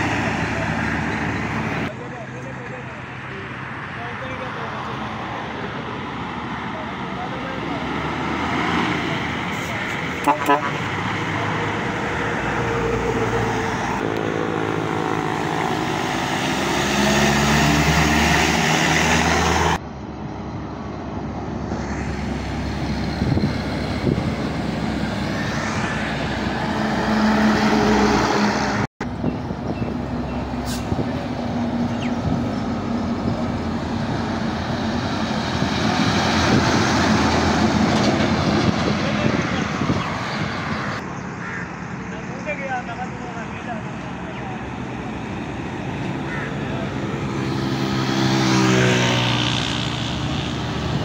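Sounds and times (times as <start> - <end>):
diesel trucks driving past: 0.0 - 51.0
tyre and road noise: 0.0 - 51.0.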